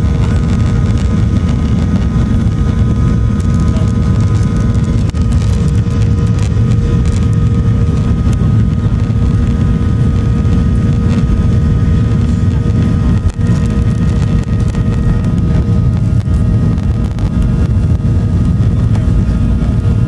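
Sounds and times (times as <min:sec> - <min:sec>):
jet engine rumble: 0:00.0 - 0:20.0
jet engine whine: 0:00.0 - 0:20.0.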